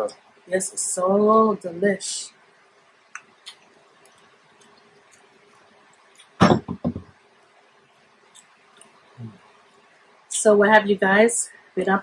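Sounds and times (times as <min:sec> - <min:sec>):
faint air unit hum: 0:00.0 - 0:12.0.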